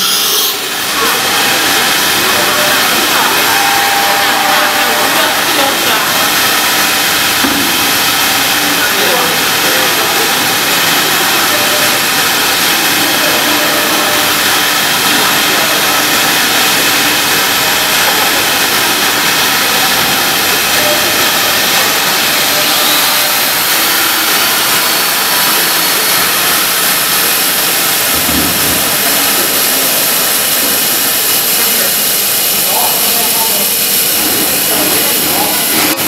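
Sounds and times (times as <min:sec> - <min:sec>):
cnc router running: 0:00.0 - 0:36.0.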